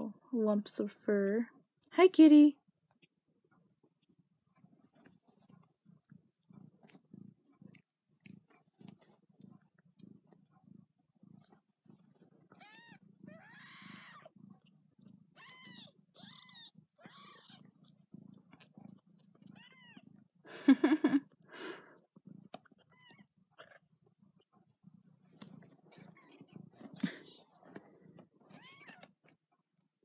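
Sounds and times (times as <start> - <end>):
low rhythmic purr: 0.0 - 30.0.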